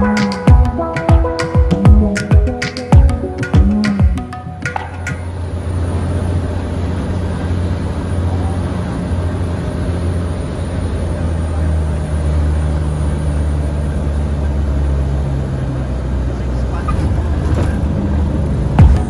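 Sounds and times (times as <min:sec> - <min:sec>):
plane engine and propeller droning: 0:00.0 - 0:19.0.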